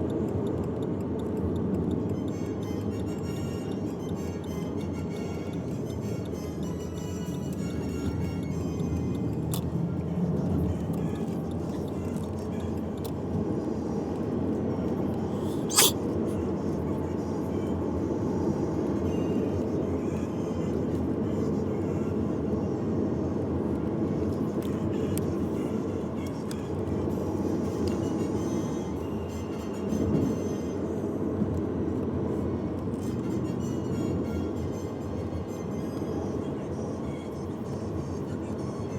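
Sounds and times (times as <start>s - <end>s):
music: 0.2s - 38.9s.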